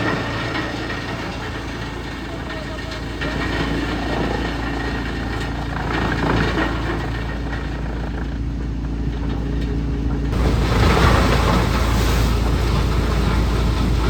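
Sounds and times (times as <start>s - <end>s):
wood chipper engine running: 0.0s - 14.0s.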